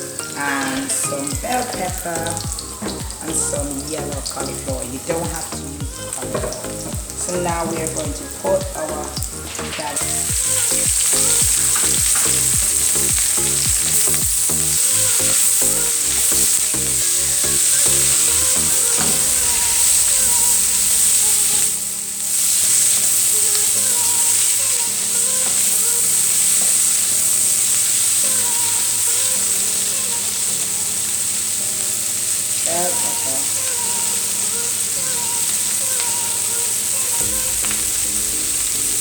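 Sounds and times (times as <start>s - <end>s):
cabbage sizzling in oil: 0.0s - 39.0s.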